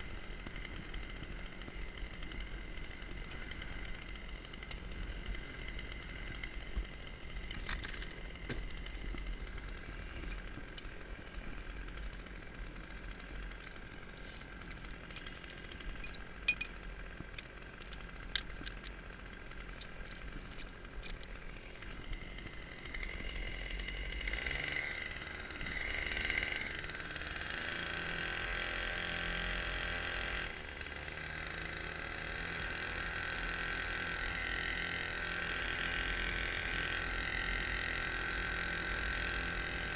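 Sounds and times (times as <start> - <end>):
small motor whining: 0.0 - 39.9.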